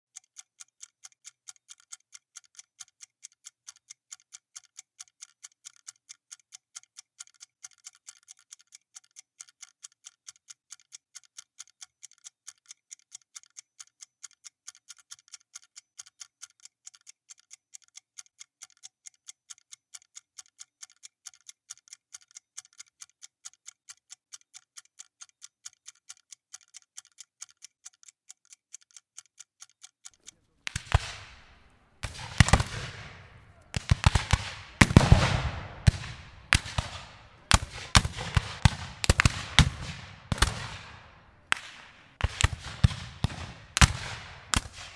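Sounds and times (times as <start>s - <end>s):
clock ticking: 0.0s - 44.9s.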